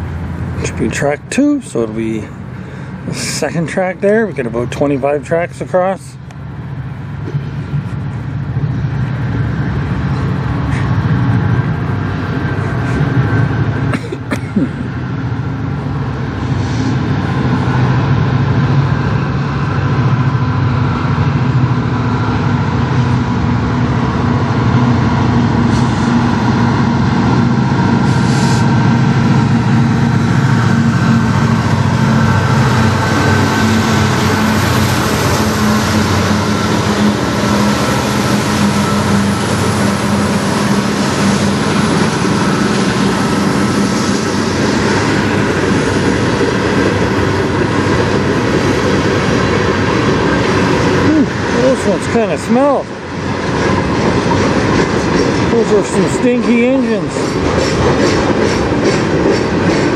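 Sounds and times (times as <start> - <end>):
diesel locomotive engines rumbling: 0.0 - 59.9.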